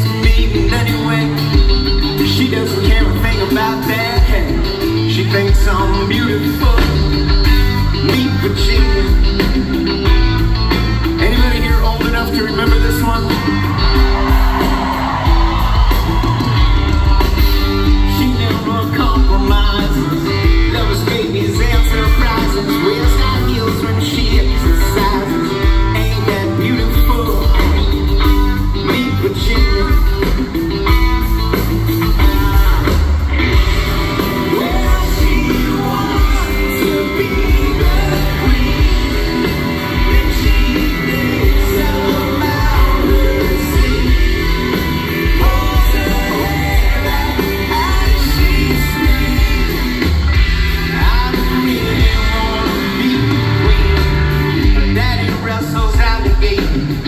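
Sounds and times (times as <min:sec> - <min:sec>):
electric guitar: 0:00.0 - 0:57.0
lead singer: 0:00.0 - 0:57.0
live rock band playing: 0:00.0 - 0:57.0.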